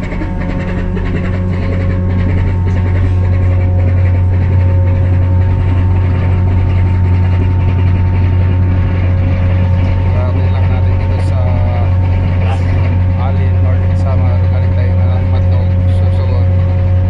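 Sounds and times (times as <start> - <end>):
faint steady tones: 0.0 - 17.0
ferry engines humming: 0.0 - 17.0.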